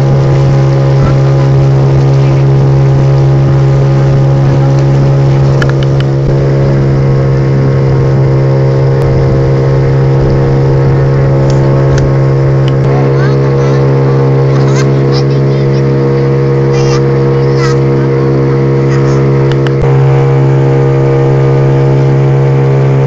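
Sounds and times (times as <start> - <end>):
motorboat engine droning: 0.0 - 23.0
water rushing past hull: 0.0 - 23.0.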